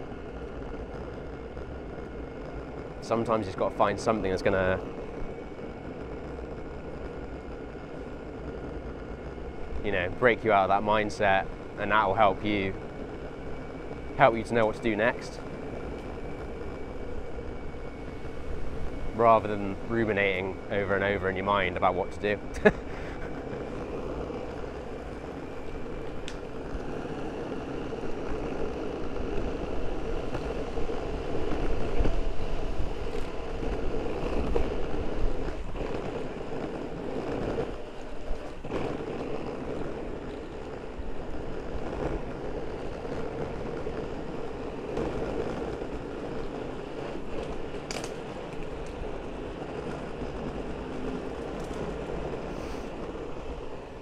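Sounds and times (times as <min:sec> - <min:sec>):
skateboard wheels rolling on pavement: 0:00.0 - 0:54.0
wind buffeting microphone: 0:00.0 - 0:54.0.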